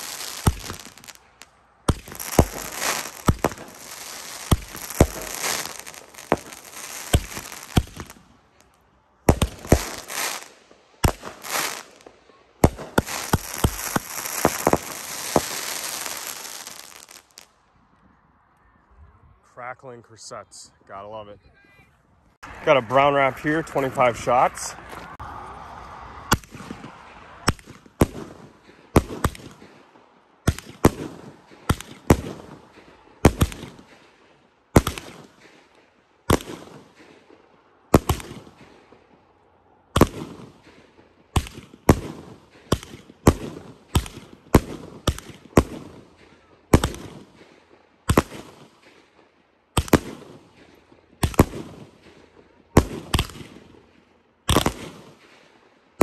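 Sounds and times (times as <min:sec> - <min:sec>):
firework bangs: 0:00.0 - 0:17.5, 0:26.1 - 0:39.3, 0:39.9 - 0:56.0.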